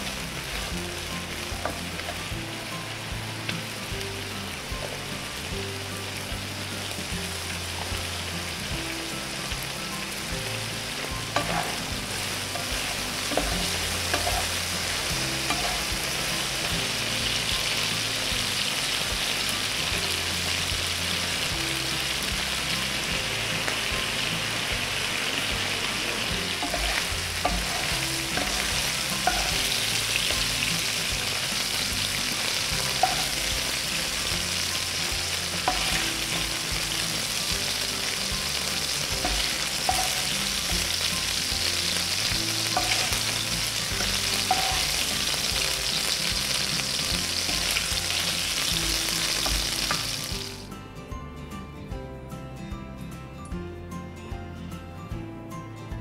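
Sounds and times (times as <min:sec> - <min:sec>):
beef sizzling in frying pan: 0:00.0 - 0:50.7.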